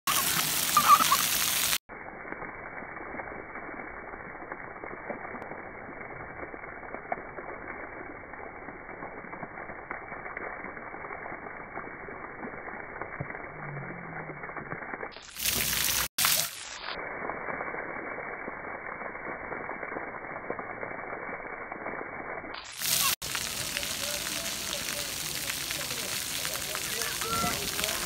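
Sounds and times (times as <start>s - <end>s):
fountain water spraying on concrete: 0.0s - 28.0s.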